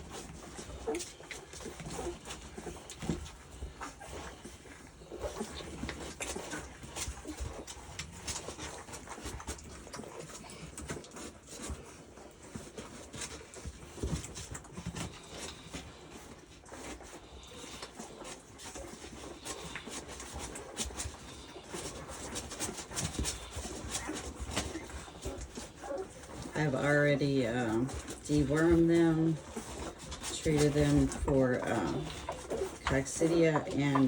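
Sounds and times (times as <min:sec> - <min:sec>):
puppies nursing smacking: 0:00.0 - 0:34.0.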